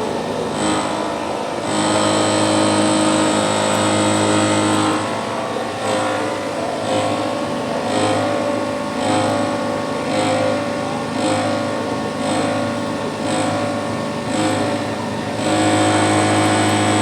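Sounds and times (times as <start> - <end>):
milling machine motor whine: 0.0 - 17.0.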